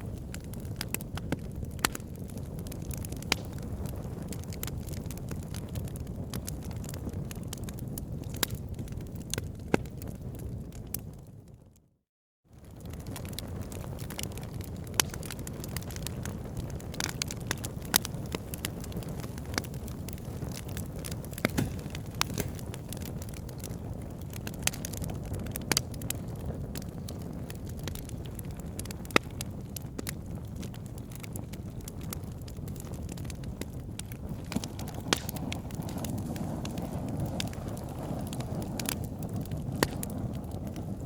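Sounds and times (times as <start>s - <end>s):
campfire crackling and popping: 0.0s - 11.4s, 12.6s - 41.0s.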